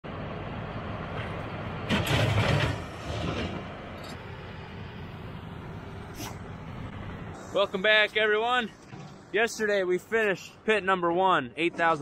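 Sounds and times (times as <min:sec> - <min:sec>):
engine running: 0:00.0 - 0:10.7.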